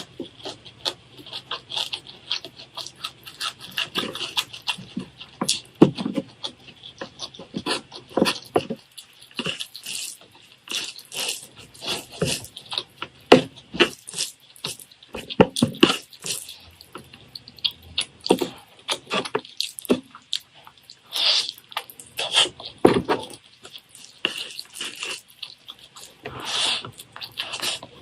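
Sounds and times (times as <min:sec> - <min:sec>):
wet chewing and smacking: 0:00.0 - 0:28.0.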